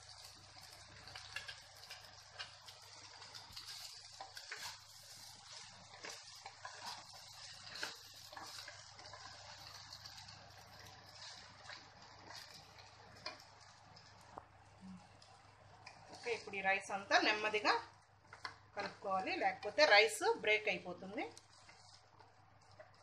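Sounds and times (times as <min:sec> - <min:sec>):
rice sizzling in a wok: 0:00.0 - 0:23.0
spatula scraping a pan: 0:00.1 - 0:14.4, 0:15.2 - 0:23.0.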